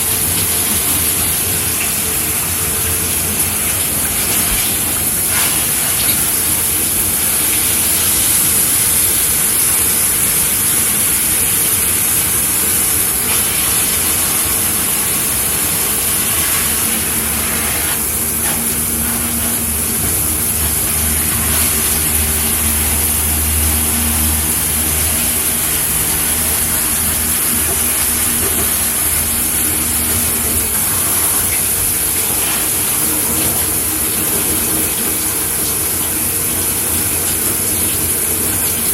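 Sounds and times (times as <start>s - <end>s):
shower water spraying: 0.0s - 38.9s.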